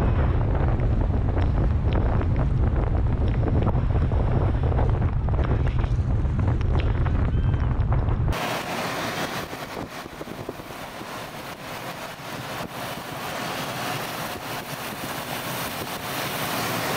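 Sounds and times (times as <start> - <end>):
storm wind and rain past vehicle: 0.0 - 16.9.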